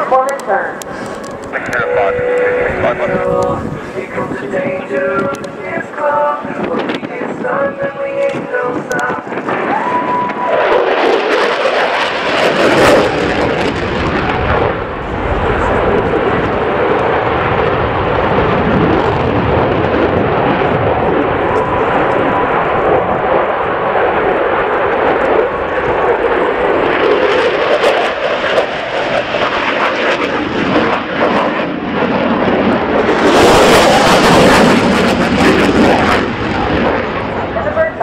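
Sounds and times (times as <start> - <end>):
jet engine rushing: 0.0 - 38.0.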